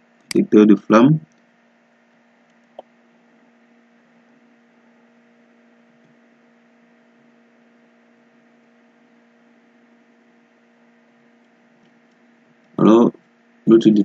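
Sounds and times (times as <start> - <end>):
faint electrical hum with hiss: 0.0 - 14.0.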